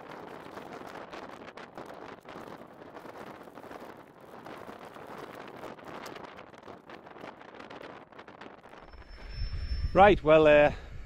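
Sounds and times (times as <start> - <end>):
wind gusts on microphone: 0.0 - 11.0.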